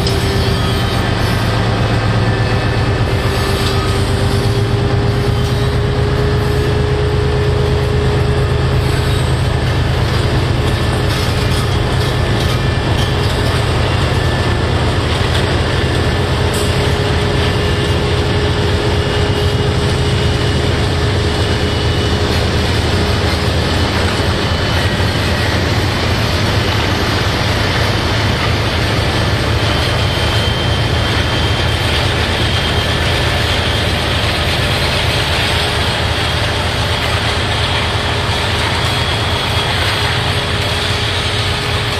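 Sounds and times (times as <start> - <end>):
diesel locomotive engine: 0.0 - 41.9
train wheels on rails: 0.0 - 41.9.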